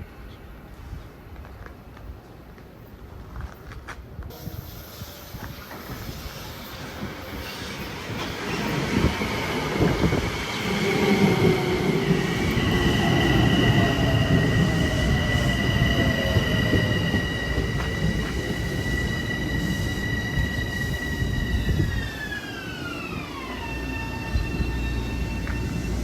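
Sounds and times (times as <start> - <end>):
commuter train passing: 4.3 - 26.0
high wheel squeal: 4.4 - 26.0.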